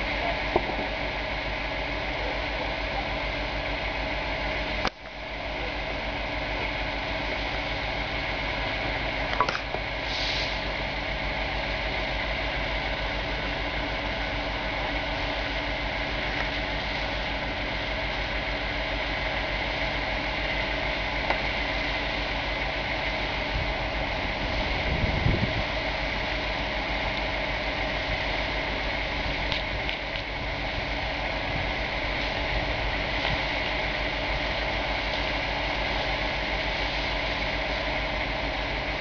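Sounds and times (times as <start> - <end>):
fire engine motors and pumps: 0.0 - 39.0.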